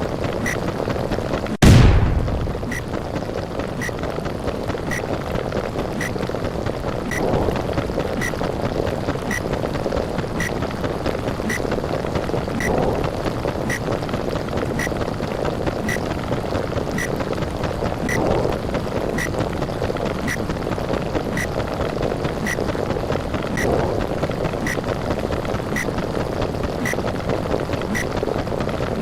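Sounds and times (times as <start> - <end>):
muffled underwater rushing: 0.0 - 29.0.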